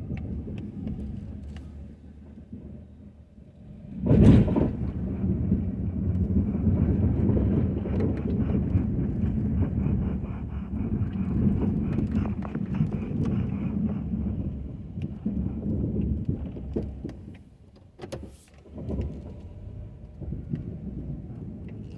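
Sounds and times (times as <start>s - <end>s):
truck engine rumbling: 0.0s - 17.7s, 18.3s - 21.9s.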